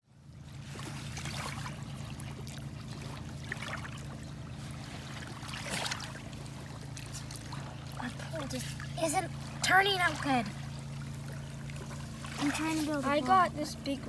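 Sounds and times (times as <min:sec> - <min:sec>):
steady low hum: 0:00.1 - 0:14.0
water trickling and splashing: 0:00.2 - 0:14.0.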